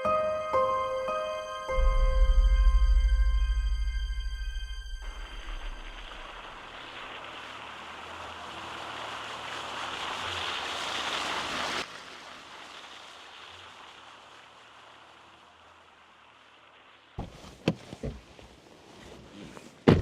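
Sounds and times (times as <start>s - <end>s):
heavy rain hissing: 0.9s - 17.5s.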